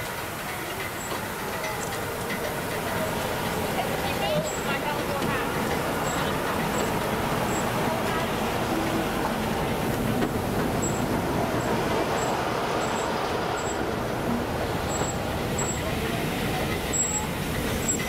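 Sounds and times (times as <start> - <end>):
faint voices: 0.0 - 18.0
steam locomotive hissing: 0.0 - 18.0.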